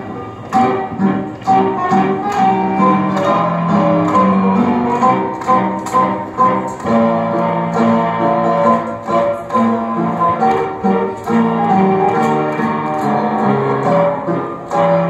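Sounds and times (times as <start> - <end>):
instrumental music with steady beat: 0.0 - 15.0.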